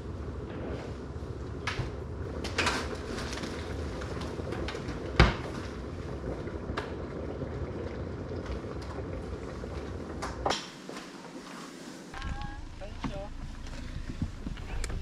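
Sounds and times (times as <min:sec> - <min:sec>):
steady low rumble: 0:00.0 - 0:10.5, 0:12.1 - 0:15.0.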